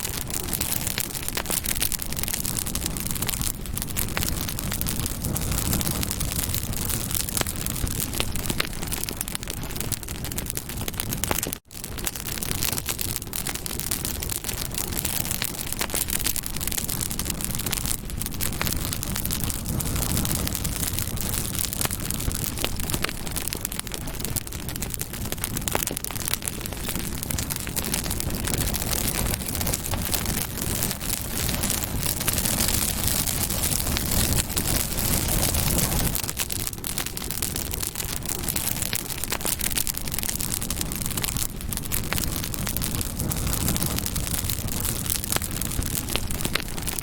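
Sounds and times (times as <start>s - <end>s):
low rush of flames: 0.0s - 47.0s
wood crackling and popping: 0.0s - 47.0s.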